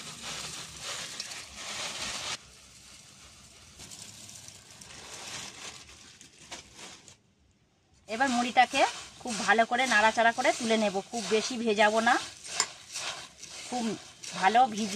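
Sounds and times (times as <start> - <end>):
puffed rice pouring into a bowl: 0.0 - 7.2, 8.1 - 14.9.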